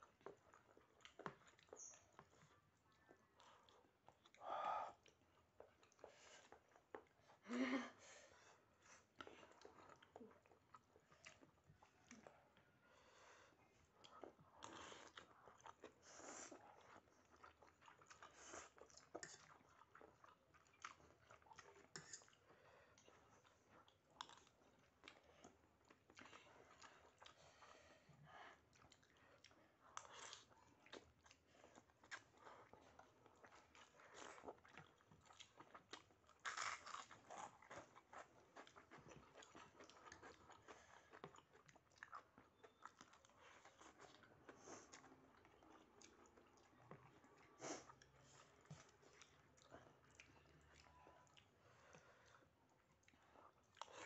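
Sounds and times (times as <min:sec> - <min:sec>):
person chewing food: 0:00.0 - 0:07.4, 0:08.3 - 0:54.0.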